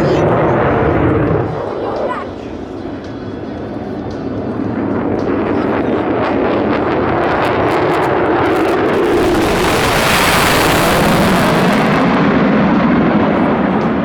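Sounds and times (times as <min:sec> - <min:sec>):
jet engines roaring in low pass: 0:00.0 - 0:14.0.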